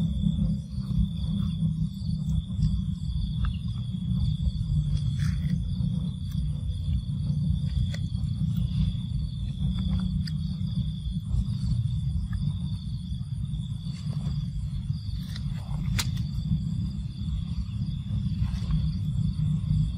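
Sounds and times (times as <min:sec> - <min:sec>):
continuous low rumble: 0:00.0 - 0:19.9
high-pitched insect drone: 0:00.0 - 0:19.9.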